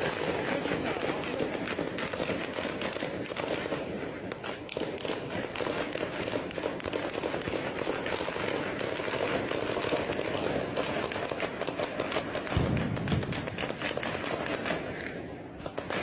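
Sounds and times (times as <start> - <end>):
rapid gunshots: 0.0 - 16.0.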